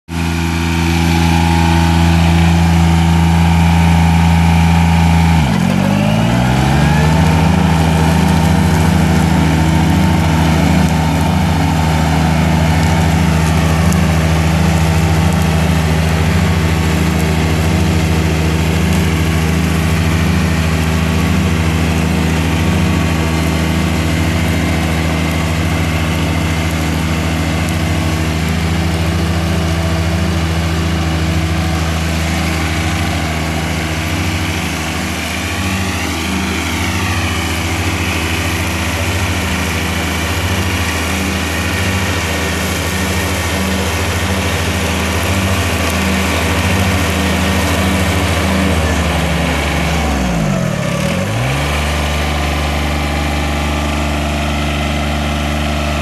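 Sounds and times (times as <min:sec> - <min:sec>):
lawn mower diesel engine running: 0:00.0 - 0:56.0.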